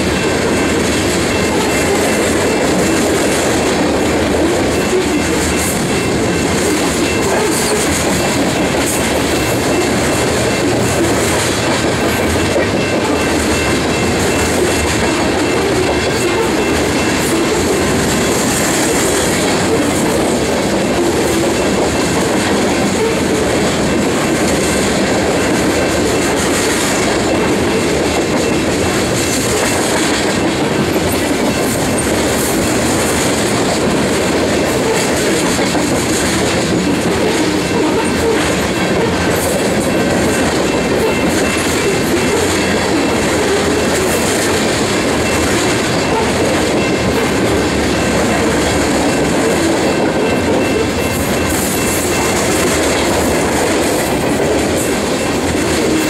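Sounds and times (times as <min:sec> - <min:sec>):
train wheels clickety-clack: 0:00.0 - 0:56.0.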